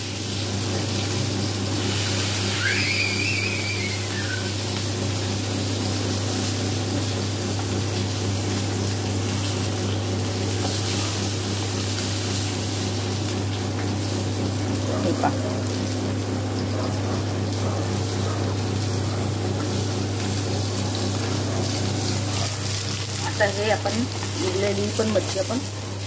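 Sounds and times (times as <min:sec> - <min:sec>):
low mechanical hum with hiss: 0:00.0 - 0:26.0.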